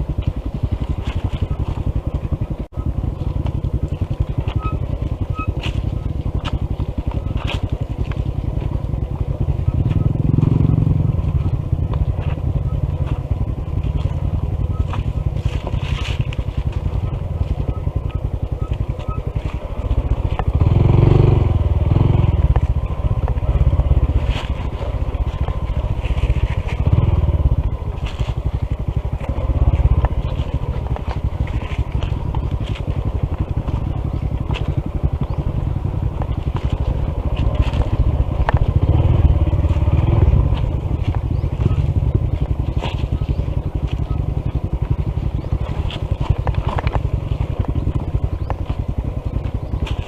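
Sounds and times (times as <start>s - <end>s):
motorcycle engine running: 0.0s - 50.0s
tyres crunching on dirt: 0.0s - 50.0s.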